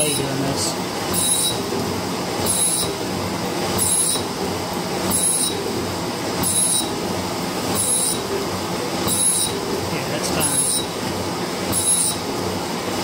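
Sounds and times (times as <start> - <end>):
metal shaper running: 0.0 - 13.0.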